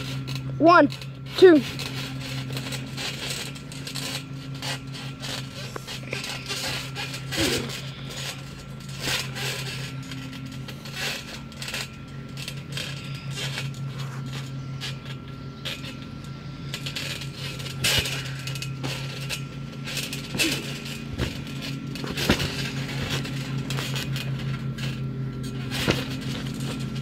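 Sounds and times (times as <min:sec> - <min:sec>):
low hum: 0:00.0 - 0:27.0
bodies scuffing on trampoline: 0:01.3 - 0:16.2, 0:16.9 - 0:27.0.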